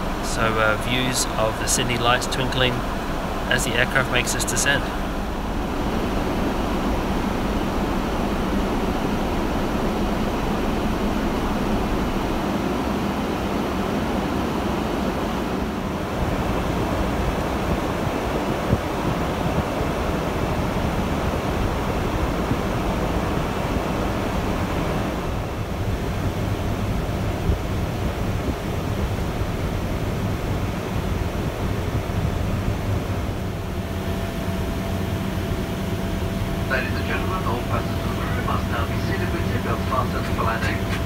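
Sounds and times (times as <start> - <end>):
aircraft engine rumble: 0.0 - 41.0
airflow rushing in cabin: 0.0 - 41.0.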